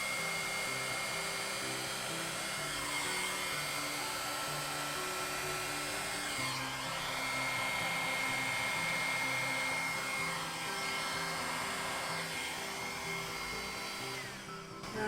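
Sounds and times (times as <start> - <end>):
hair dryer blowing: 0.0 - 15.0
soft background music: 0.0 - 15.0.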